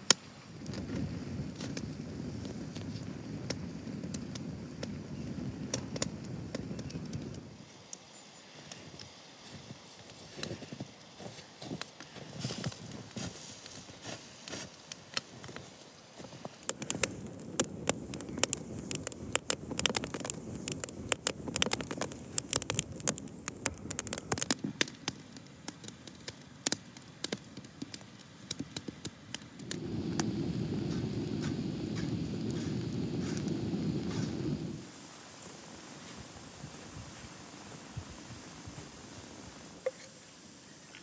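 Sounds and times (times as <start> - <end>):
wood fire crackling and popping: 0.0 - 8.0, 8.6 - 34.9
low rumble of fire: 0.0 - 39.9.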